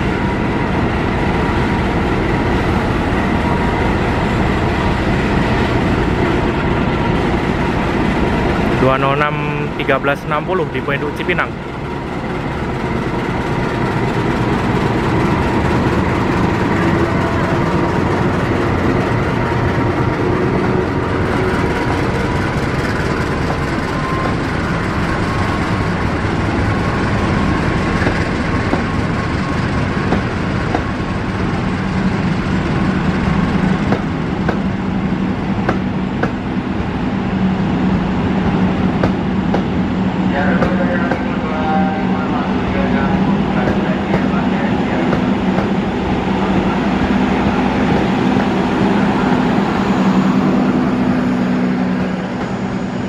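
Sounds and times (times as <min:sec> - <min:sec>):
locomotive engine drone: 0:00.0 - 0:53.0
train wheels on rails: 0:00.0 - 0:53.0.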